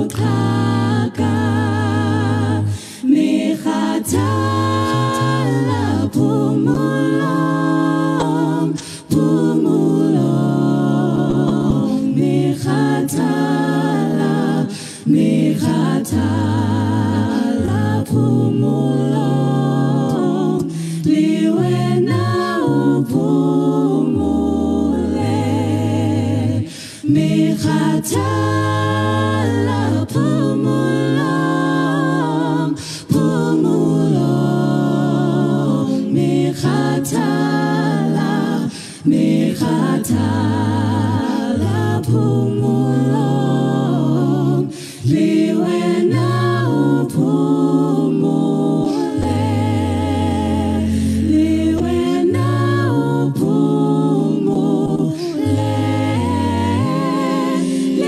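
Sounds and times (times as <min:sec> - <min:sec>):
vocal group singing in harmony: 0:00.0 - 0:58.0.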